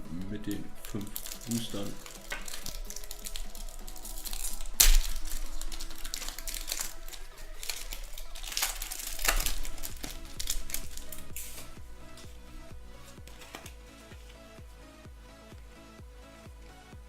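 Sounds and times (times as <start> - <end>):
foil packets tearing and crinkling: 0.0 - 14.4
background music: 0.0 - 17.0.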